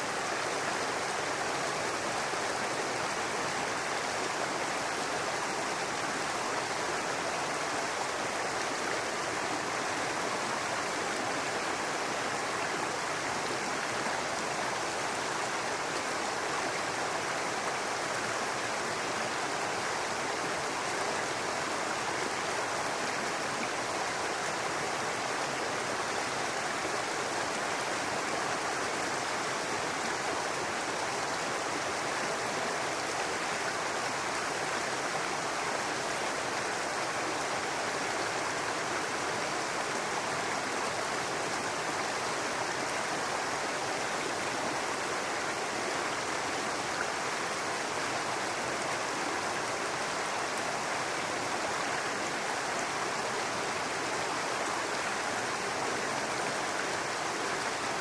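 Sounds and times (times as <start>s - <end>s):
brook water babbling over rocks: 0.0s - 58.0s.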